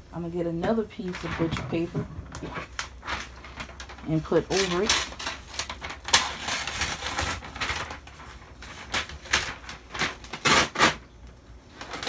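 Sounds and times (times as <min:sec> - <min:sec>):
paper rustling: 0:00.6 - 0:11.0.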